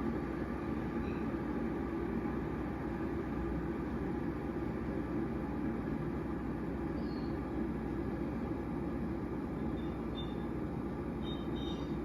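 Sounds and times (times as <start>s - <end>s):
kettle water rumbling hiss: 0.0s - 12.0s.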